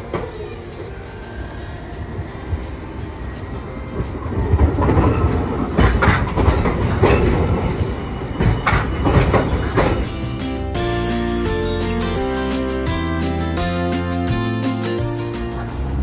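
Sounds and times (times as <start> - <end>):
tram rumbling past: 0.0 - 16.0
wheels clanking over rail joints: 0.0 - 16.0.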